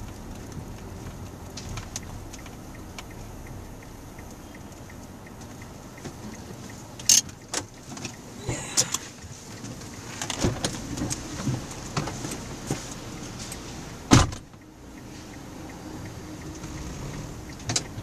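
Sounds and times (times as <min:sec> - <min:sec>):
car cabin rumble: 0:00.0 - 0:18.0
faint even ticking: 0:00.0 - 0:18.0.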